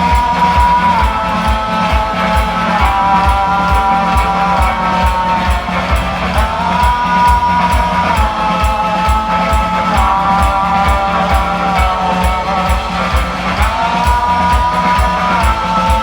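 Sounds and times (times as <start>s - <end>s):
kick drum beat: 0.0s - 16.0s
pop-rock band playing live: 0.0s - 16.0s.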